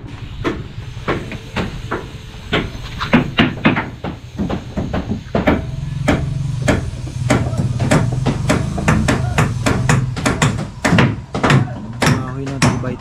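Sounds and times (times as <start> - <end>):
steady low hum: 0.0 - 13.0
hammer blows on nails and wood: 0.4 - 13.0.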